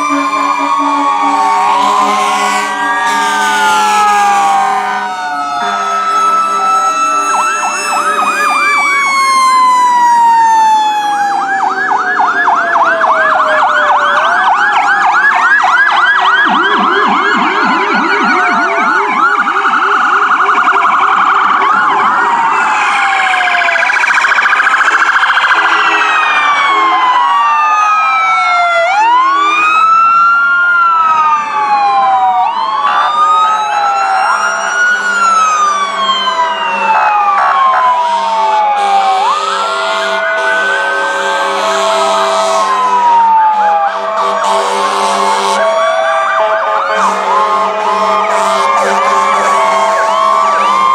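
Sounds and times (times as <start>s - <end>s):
emergency vehicle sirens: 0.0s - 50.9s.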